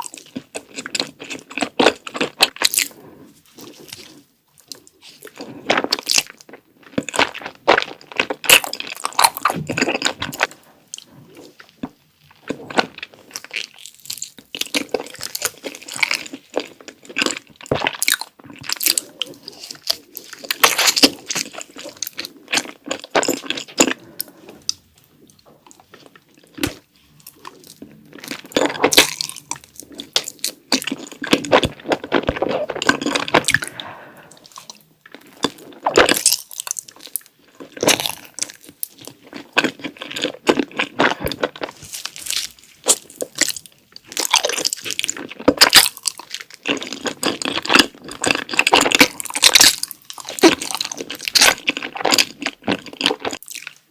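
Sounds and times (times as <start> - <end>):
biting and chewing: 0.0 - 53.9.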